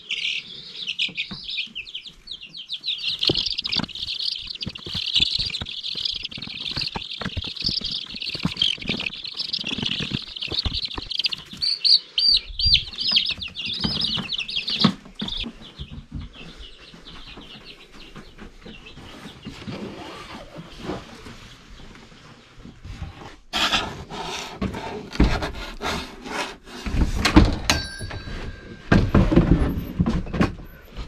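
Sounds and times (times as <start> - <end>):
baby chicks peeping: 0.0 - 31.0
knocks and rustling in shavings: 2.8 - 11.8, 12.9 - 31.0.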